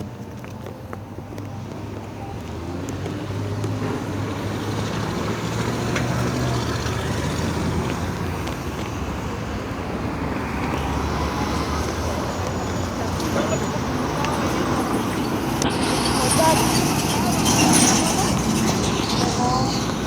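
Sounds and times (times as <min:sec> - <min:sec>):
road traffic engine drone: 0:00.0 - 0:20.0.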